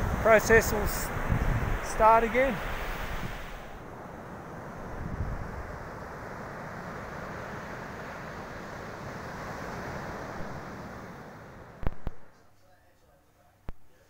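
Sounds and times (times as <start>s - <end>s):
waves breaking on sand: 0.0s - 12.2s
wind rumbling on microphone: 0.0s - 12.3s.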